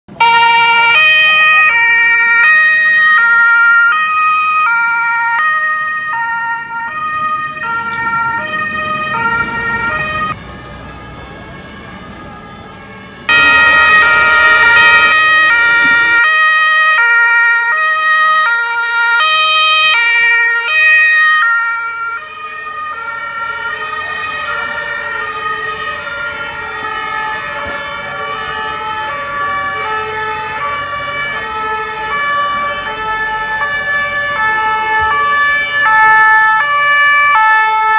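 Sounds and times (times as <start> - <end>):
two-tone emergency sirens: 0.1 - 37.9.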